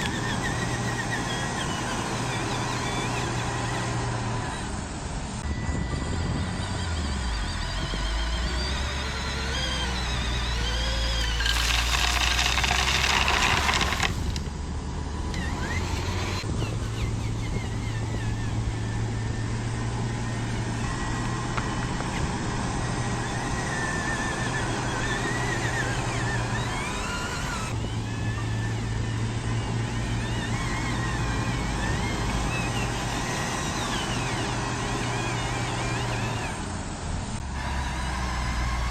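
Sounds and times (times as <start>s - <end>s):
model motors humming: 0.0s - 38.9s.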